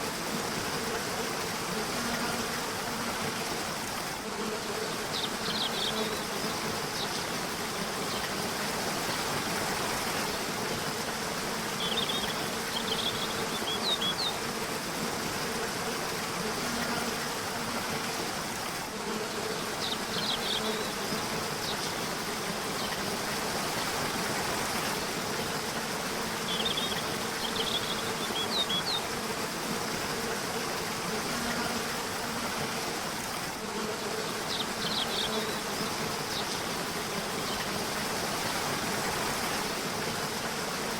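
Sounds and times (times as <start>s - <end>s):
flowing river water: 0.0s - 40.9s.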